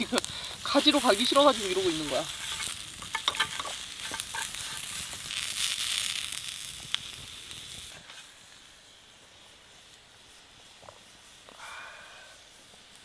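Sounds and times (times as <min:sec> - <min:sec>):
seafood sizzling on a grill: 0:00.0 - 0:13.0.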